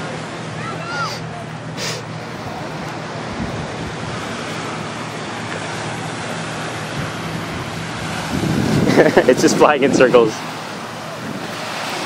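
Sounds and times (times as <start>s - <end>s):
ocean surf: 0.0s - 12.0s
wind buffeting microphone: 2.2s - 12.0s.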